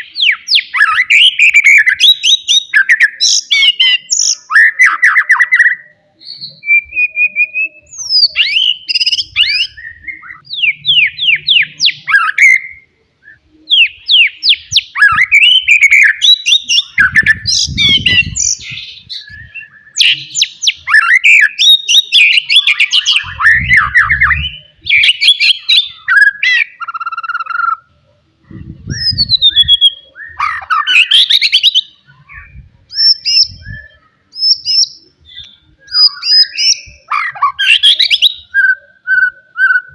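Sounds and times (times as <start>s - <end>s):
songbird singing varied whistles: 0.0s - 27.9s, 28.8s - 39.9s.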